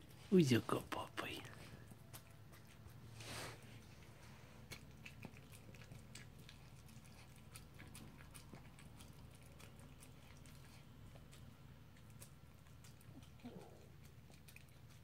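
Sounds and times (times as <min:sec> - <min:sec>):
dog licking and chewing: 0:00.0 - 0:15.0.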